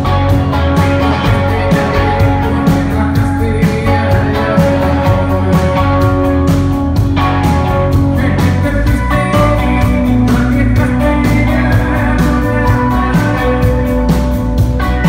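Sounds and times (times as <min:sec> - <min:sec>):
drums steady beat: 0:00.0 - 0:15.0
electric guitar chords: 0:00.0 - 0:15.0.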